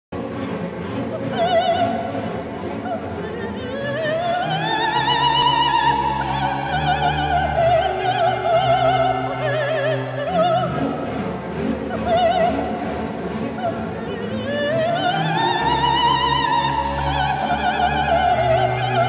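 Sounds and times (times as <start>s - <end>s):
orchestra: 0.1s - 19.0s
operatic soprano singing: 0.2s - 19.0s.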